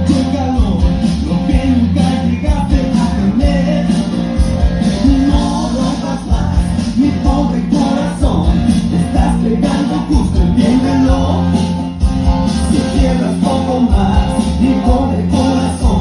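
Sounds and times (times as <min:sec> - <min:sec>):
loud bass-heavy dance music: 0:00.0 - 0:16.0.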